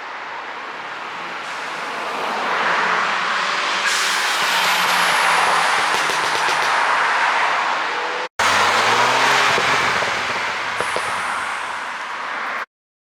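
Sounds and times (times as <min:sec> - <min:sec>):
road and wind noise: 0:00.0 - 0:12.7.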